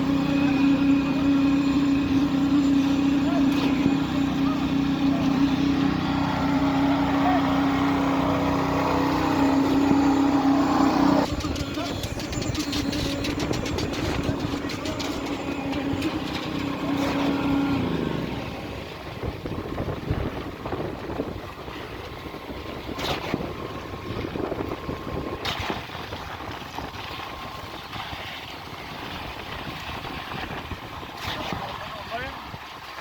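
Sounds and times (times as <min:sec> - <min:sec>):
diesel engine humming: 0:00.0 - 0:30.6
rough mechanical noise: 0:00.0 - 0:32.5.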